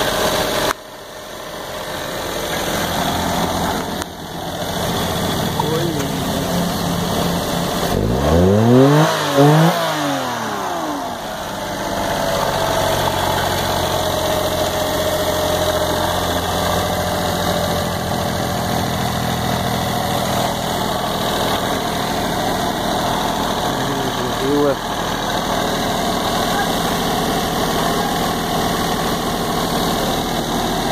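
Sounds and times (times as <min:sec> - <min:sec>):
car engine revving and idling: 0:00.0 - 0:30.9.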